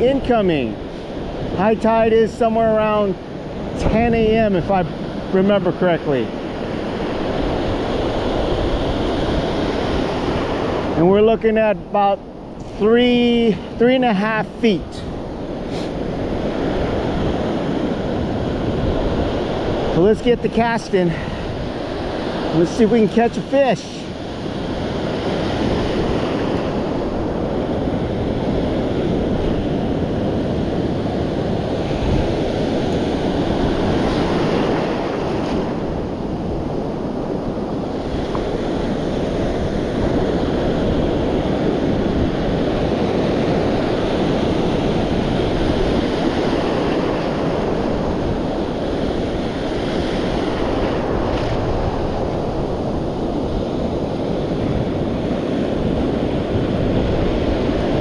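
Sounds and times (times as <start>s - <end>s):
ocean surf on beach: 0.0s - 58.0s.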